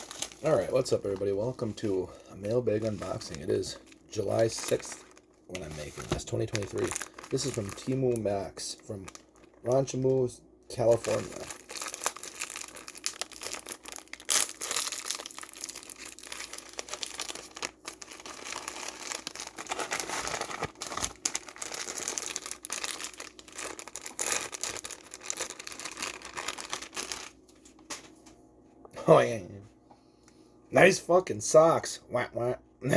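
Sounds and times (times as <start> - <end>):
packaging torn and crinkled: 0.0 - 10.1, 10.8 - 28.0.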